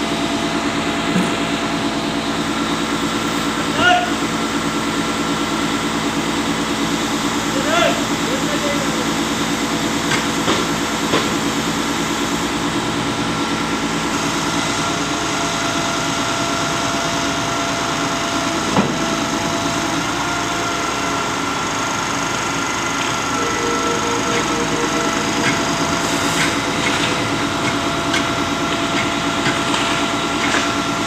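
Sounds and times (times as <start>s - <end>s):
pump engine and machinery running: 0.0s - 31.0s.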